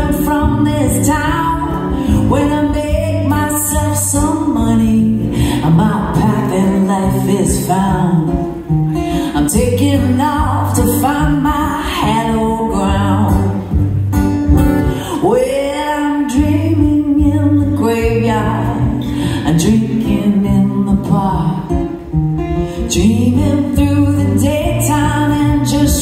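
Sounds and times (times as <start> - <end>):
woman singing: 0.0 - 14.0, 14.7 - 26.0
acoustic guitar: 0.0 - 26.0.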